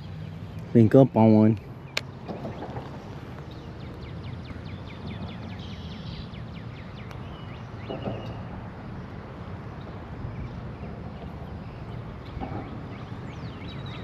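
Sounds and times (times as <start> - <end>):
low rumble of background noise: 0.0 - 14.0
small bird singing: 0.0 - 14.0.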